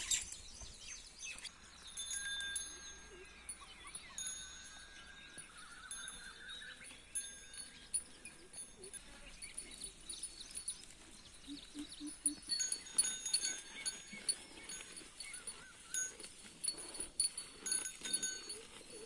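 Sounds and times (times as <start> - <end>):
livestock bells tinkling: 1.2 - 19.0.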